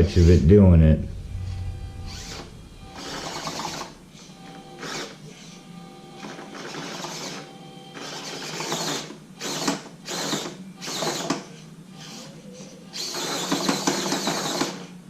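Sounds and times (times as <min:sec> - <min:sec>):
small electric motor and gears whirring: 0:01.1 - 0:15.0.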